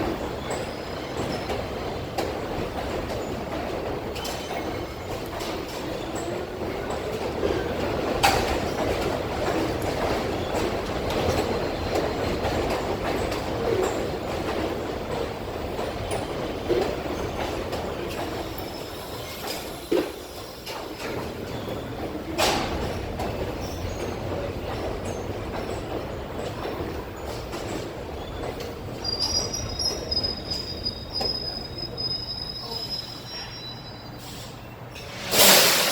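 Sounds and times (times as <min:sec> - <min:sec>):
rail clicks: 0:00.0 - 0:35.9
subway train rumble and clatter: 0:00.0 - 0:35.9.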